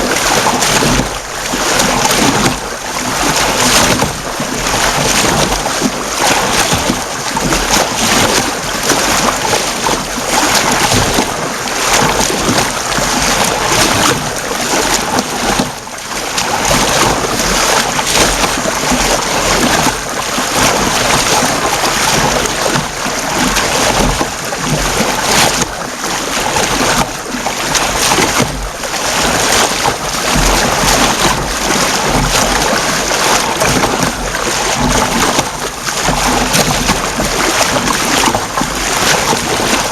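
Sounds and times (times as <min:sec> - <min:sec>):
water splashing around kayak: 0:00.0 - 0:39.9.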